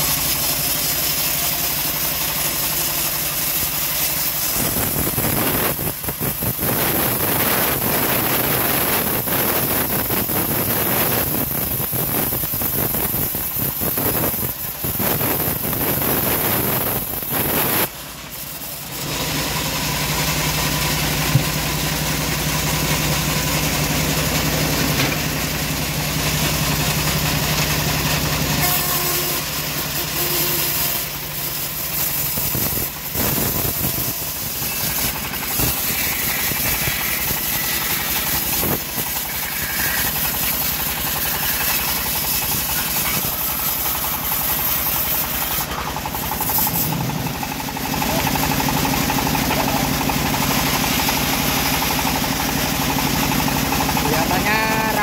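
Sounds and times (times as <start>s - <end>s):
bandsaw cutting a log: 0.0s - 55.0s.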